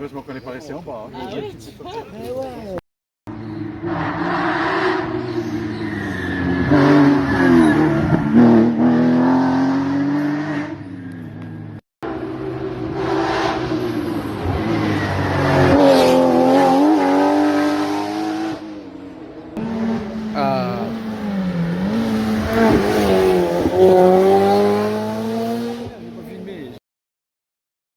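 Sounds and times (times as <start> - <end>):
rally cars revving past: 3.3 - 26.6.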